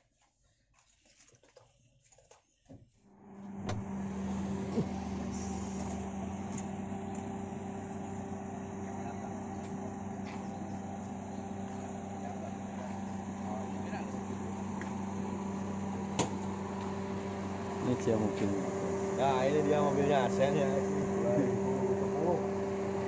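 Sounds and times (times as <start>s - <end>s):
vehicle engine idling: 3.5s - 23.0s.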